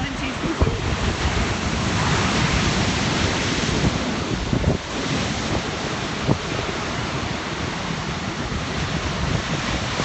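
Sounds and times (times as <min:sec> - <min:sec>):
waves washing on rocks: 0:00.0 - 0:10.0
wind buffeting microphone: 0:00.0 - 0:10.0.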